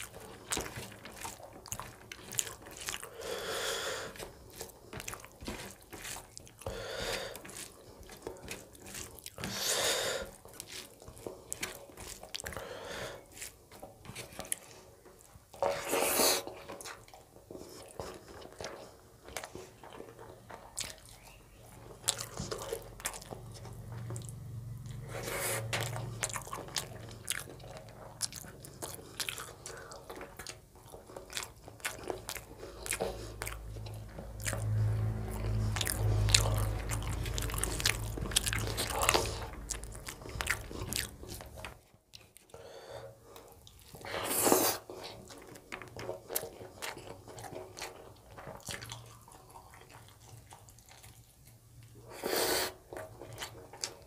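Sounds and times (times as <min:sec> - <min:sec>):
person chewing wetly: 0:00.0 - 0:54.0.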